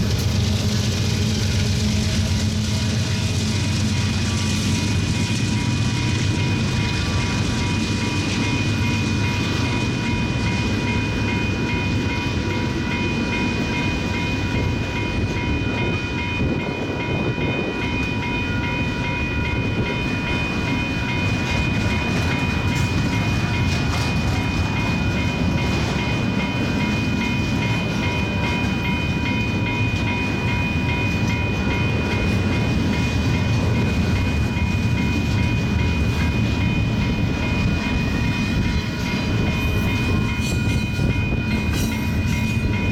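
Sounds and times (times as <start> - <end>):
train wheels rumbling on rail: 0.0 - 42.9
high ringing tones: 1.6 - 42.9.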